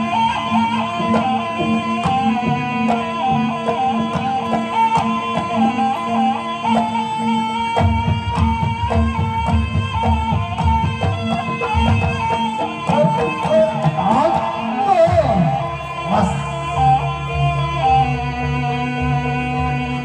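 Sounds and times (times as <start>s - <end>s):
wavering melodic lead: 0.0s - 20.0s.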